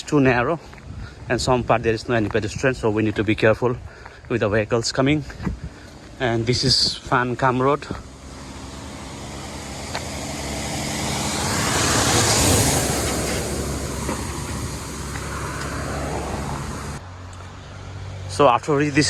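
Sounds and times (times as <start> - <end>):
road vehicle passing by: 0.0 - 19.0.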